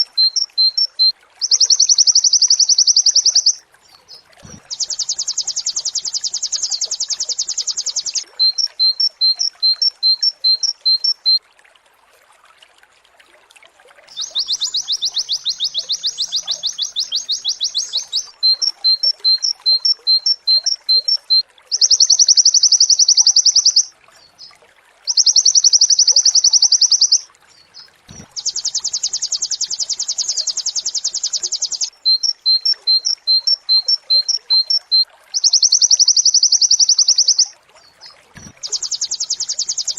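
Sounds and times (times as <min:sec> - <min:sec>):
bird singing fast trills: 0:00.0 - 0:11.4, 0:14.1 - 0:23.9, 0:25.1 - 0:37.5, 0:38.4 - 0:39.9.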